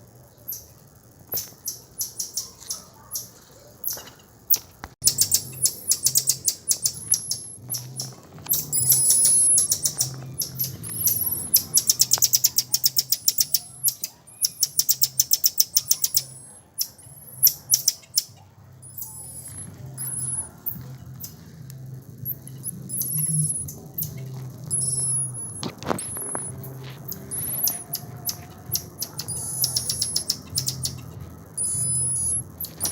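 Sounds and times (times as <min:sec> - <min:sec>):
animal chirping trills: 0:00.4 - 0:21.4, 0:22.2 - 0:32.9.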